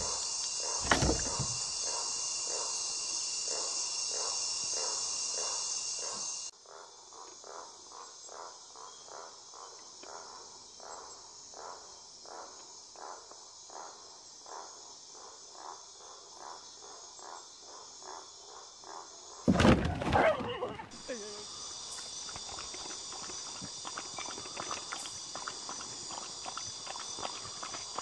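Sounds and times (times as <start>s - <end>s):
insect chorus high buzz: 0.0s - 28.0s
low pulsed insect call: 0.0s - 28.0s.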